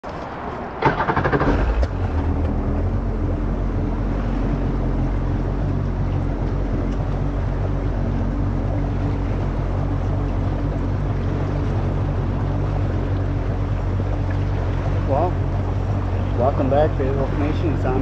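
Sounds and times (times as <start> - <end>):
jet ski engine running: 0.8 - 18.0.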